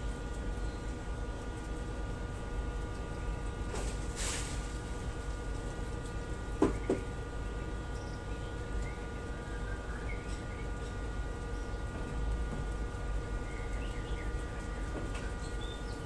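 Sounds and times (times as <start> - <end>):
steady hum: 0.0 - 16.0
rabbits munching greens: 0.1 - 16.0.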